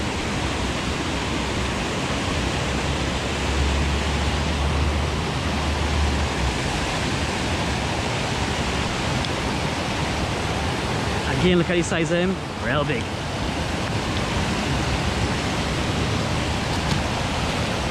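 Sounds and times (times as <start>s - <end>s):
water rushing over weir: 0.0s - 17.9s.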